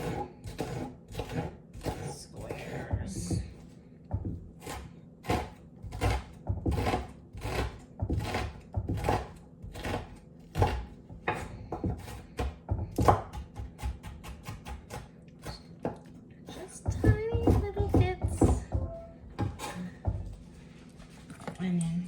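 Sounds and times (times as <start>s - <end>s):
knife chopping on cutting board: 0.0s - 20.5s.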